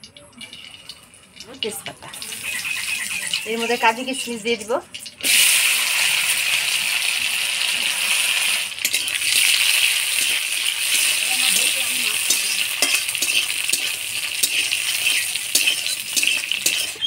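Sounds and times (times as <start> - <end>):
ghee sizzling in a pan: 0.0 - 17.0.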